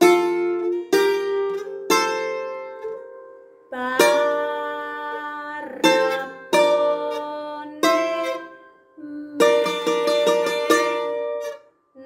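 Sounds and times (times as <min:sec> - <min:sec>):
bouzouki notes plucked: 0:00.0 - 0:11.7.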